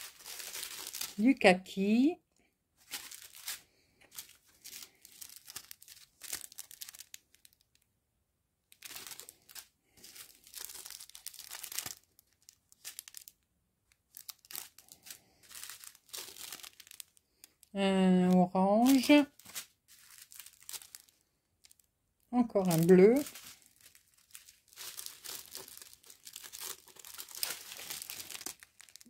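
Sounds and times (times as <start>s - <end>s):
plastic bags crinkling: 0.0s - 1.4s, 2.8s - 7.8s, 8.7s - 29.0s.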